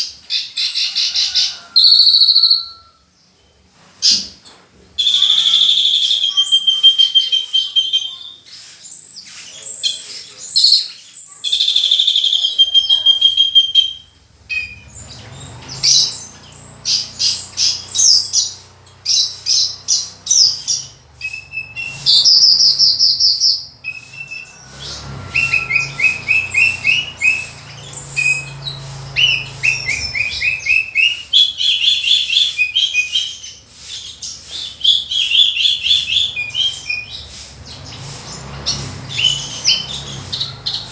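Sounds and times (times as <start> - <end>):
bird singing varied song: 0.0 - 3.5, 5.0 - 40.9.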